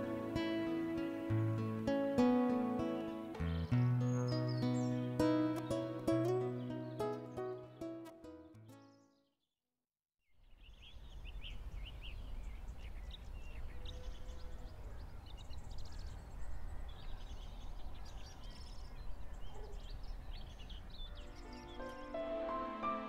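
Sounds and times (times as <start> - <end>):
small birds chirping: 0.0 - 9.4, 10.3 - 22.3.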